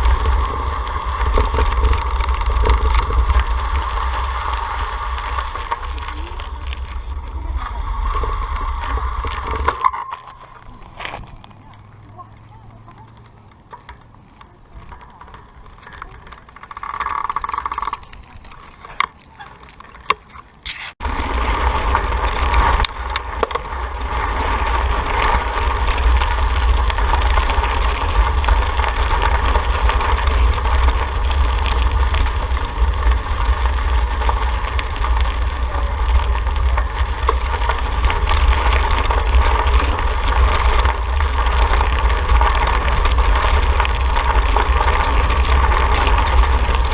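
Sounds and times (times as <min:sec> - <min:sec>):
wind rumble on microphone: 0:00.0 - 0:19.0, 0:21.0 - 0:46.9
road noise: 0:00.0 - 0:46.9.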